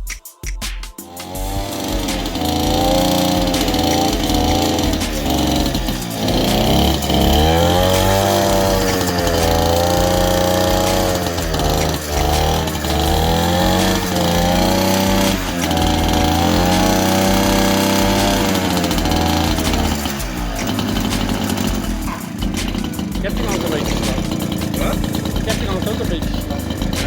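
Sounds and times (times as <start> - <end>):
small engine revving: 1.0 - 27.0.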